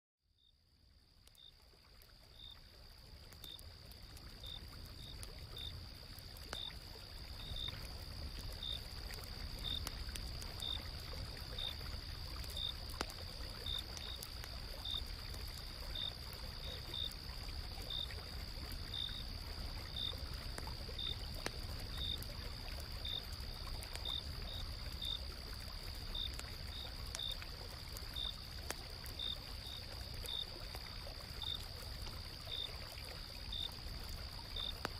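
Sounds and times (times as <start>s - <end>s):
insect chirping: 0.4s - 28.5s, 29.1s - 34.9s
campfire crackling: 0.8s - 34.9s
insects trilling: 1.2s - 25.4s, 26.0s - 34.9s.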